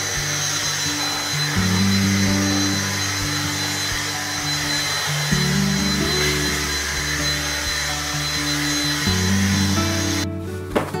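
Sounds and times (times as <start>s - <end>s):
handheld vacuum cleaner whine: 0.0s - 10.3s
background music with low notes: 0.0s - 11.0s.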